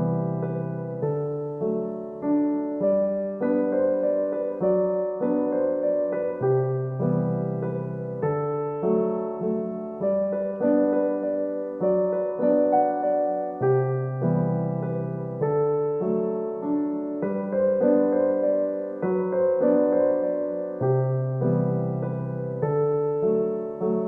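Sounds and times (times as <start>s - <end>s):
gentle piano chords: 0.0s - 24.0s.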